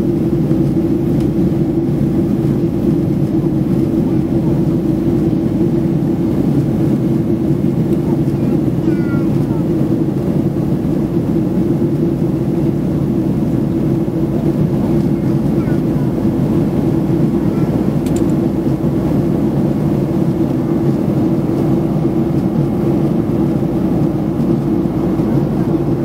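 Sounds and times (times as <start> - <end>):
constant low hum: 0.0 - 26.0
jet engine and airflow noise: 0.0 - 26.0.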